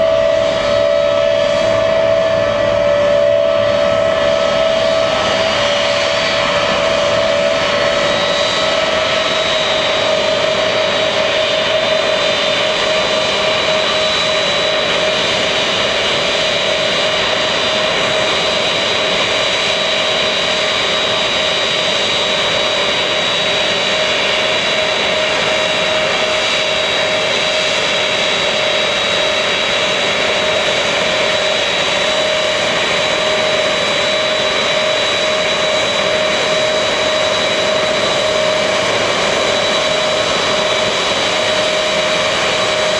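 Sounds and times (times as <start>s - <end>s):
jet engine roar: 0.0s - 42.9s
jet engines whining: 0.0s - 42.9s.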